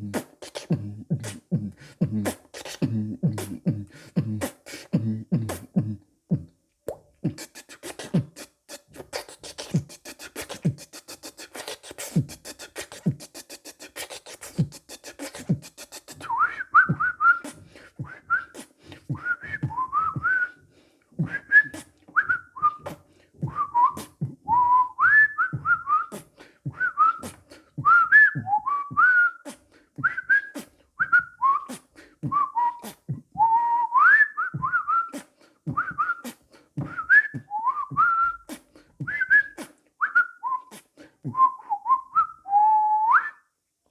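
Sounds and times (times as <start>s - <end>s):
beatboxing: 0.0s - 20.6s, 21.2s - 33.8s, 34.4s - 39.8s, 40.6s - 41.8s.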